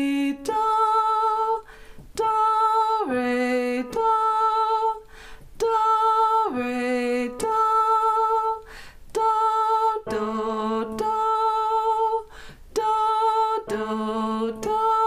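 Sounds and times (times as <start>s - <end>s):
woman singing solfege: 0.0s - 15.0s.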